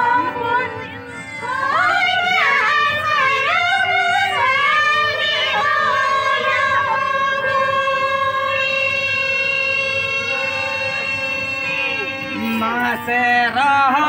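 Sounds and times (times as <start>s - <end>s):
women singing: 0.0s - 13.1s
harmonium: 0.0s - 14.0s.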